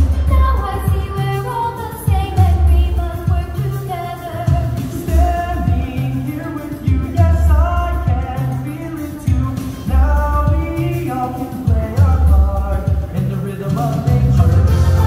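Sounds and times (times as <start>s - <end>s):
song over loudspeakers: 0.0s - 15.0s.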